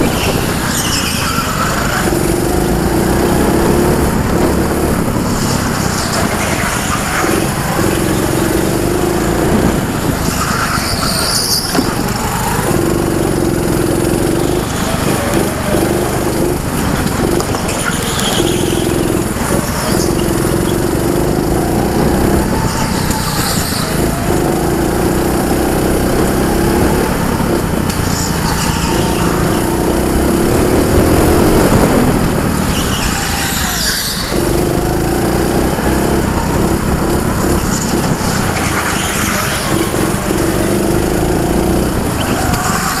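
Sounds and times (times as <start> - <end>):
go-kart engine drone: 0.0 - 43.0
high-pitched tyre squeals: 0.0 - 43.0.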